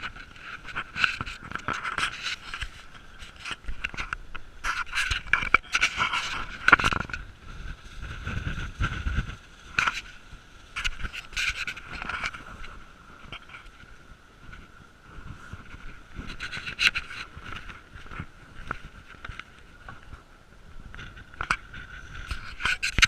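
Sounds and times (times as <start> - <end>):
wind rumble on microphone: 0.0 - 23.0.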